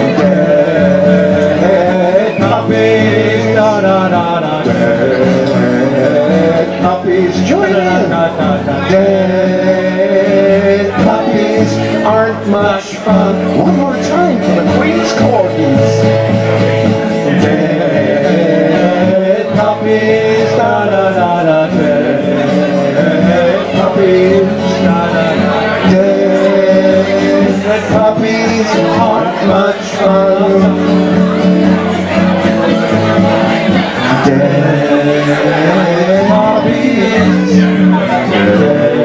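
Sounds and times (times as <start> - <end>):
man singing: 0.0 - 16.4, 17.0 - 39.0
strummed acoustic guitar: 0.0 - 39.0.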